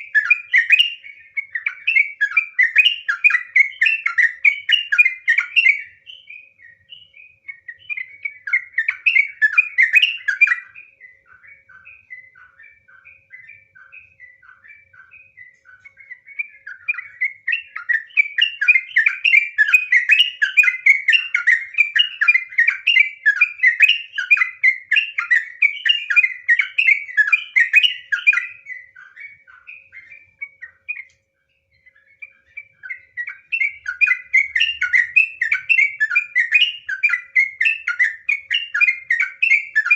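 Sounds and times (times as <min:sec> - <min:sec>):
bird singing bubbling chatter: 0:00.0 - 0:39.9.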